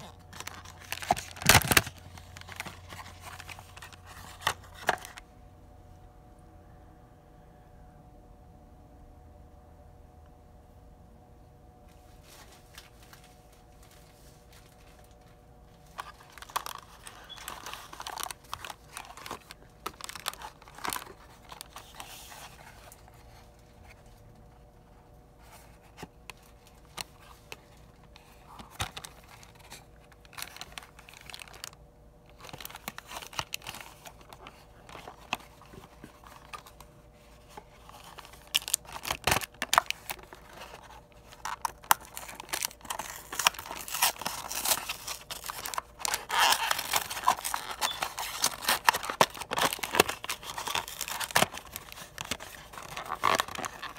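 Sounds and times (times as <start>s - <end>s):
plastic and cardboard crinkling: 0.0s - 5.3s, 12.2s - 53.9s.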